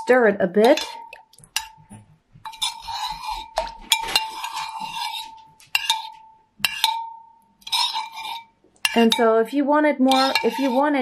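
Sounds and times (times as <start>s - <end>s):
spoon scraping thick yogurt: 0.6s - 7.0s, 7.6s - 9.4s, 10.0s - 11.0s
spoon clinking on crock: 0.6s - 9.4s, 10.1s - 10.8s.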